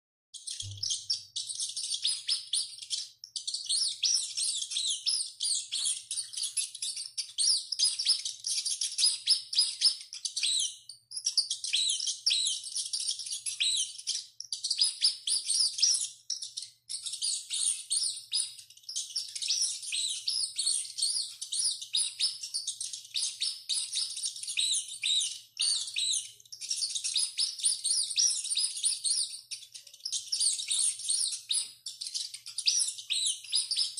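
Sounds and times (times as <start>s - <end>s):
small animal squeaking: 0.4s - 33.9s.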